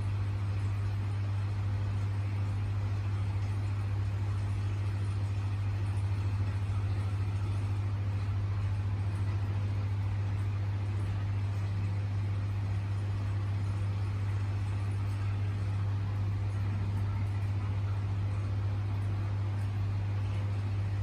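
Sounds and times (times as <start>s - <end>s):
aquarium pump humming: 0.0s - 21.0s.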